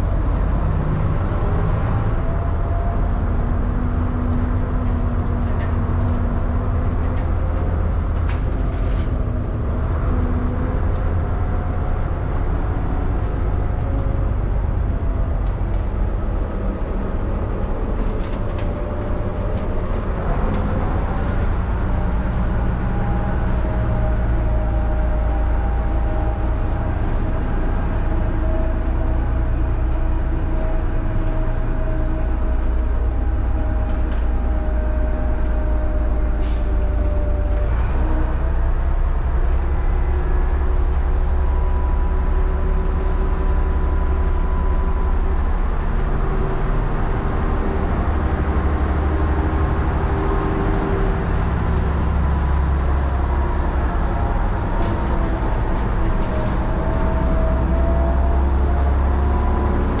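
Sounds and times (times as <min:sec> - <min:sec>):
bus diesel engine rumbling: 0:00.0 - 1:00.0.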